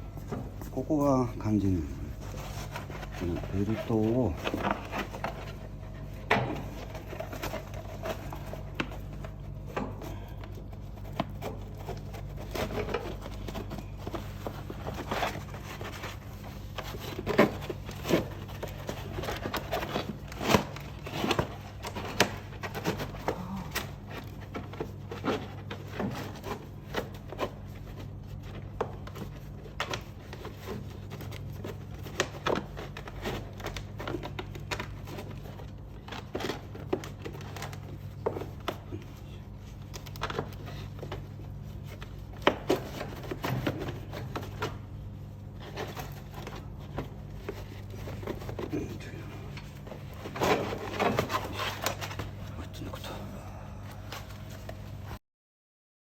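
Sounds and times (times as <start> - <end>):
steady low hum: 0.0 - 55.2.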